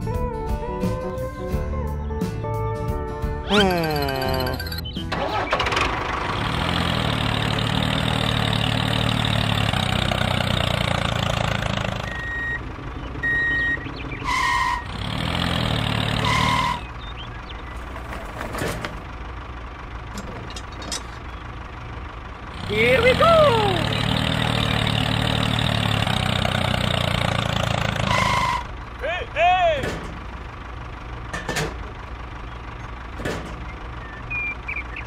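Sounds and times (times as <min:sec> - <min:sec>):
tractor engine running: 0:02.8 - 0:35.0.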